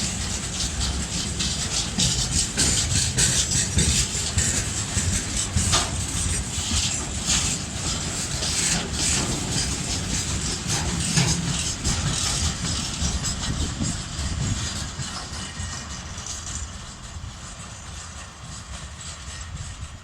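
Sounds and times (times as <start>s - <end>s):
freight train rolling past: 0.0s - 20.0s
wheels clicking over rail joints: 0.0s - 20.0s.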